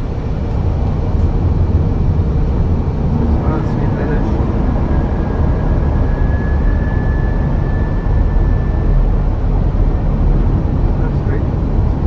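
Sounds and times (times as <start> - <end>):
rushing aircraft cockpit noise: 0.0 - 12.0.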